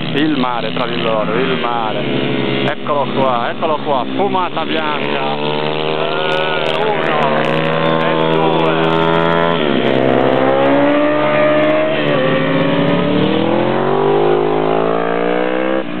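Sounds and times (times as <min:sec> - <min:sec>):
pit bike engines racing past: 0:00.0 - 0:16.0.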